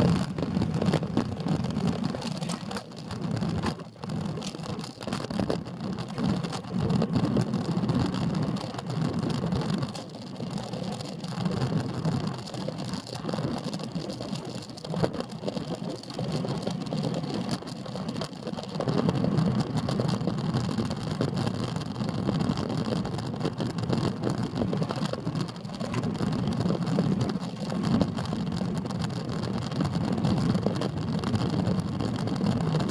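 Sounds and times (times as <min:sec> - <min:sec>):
bicycle tyre noise on asphalt: 0:00.0 - 0:32.9
wind buffeting microphone: 0:00.0 - 0:32.9.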